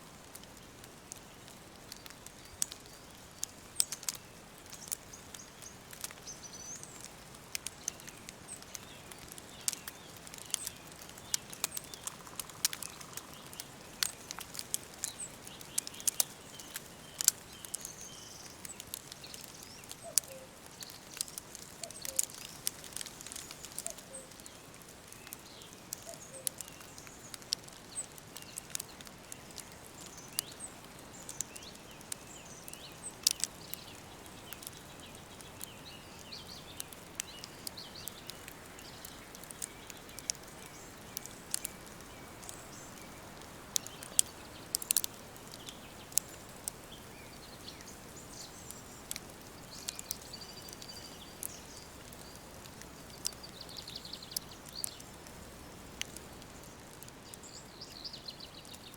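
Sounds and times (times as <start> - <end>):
wood fire crackling and popping: 0.0 - 58.9
small birds chirping: 0.1 - 58.9
low bird calls: 2.1 - 58.9.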